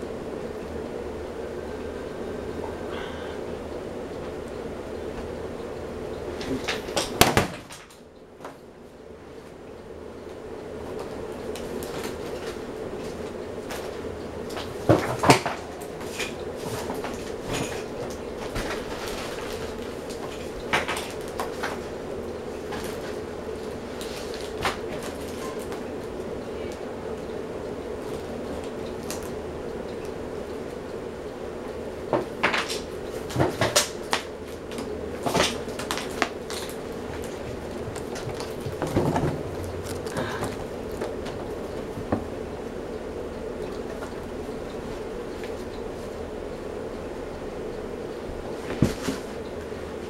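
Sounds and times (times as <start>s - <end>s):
ceiling fan humming: 0.0s - 50.0s.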